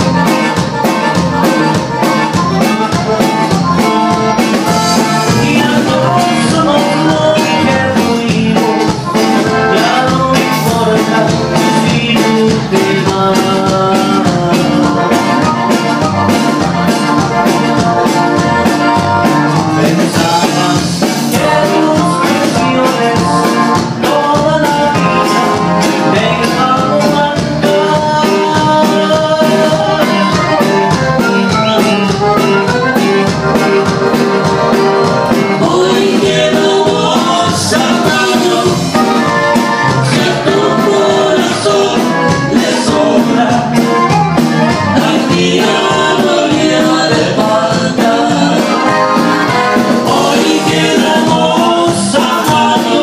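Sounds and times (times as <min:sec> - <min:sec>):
bass guitar: 0:00.0 - 0:53.0
digital accordion melody: 0:00.0 - 0:53.0
drum kit: 0:00.0 - 0:53.0
guitar: 0:00.0 - 0:53.0.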